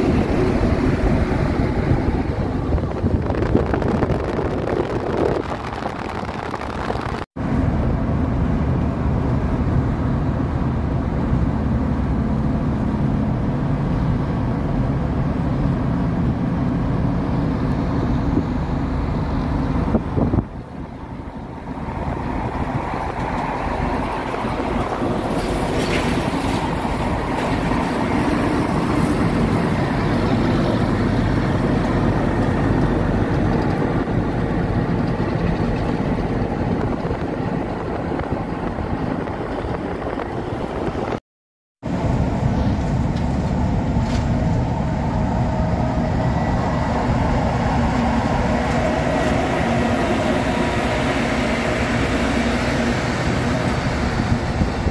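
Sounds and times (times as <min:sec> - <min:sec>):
car road and wind noise: 0:00.0 - 0:41.2, 0:41.8 - 0:54.9
truck engine drone: 0:00.0 - 0:41.2, 0:41.8 - 0:54.9.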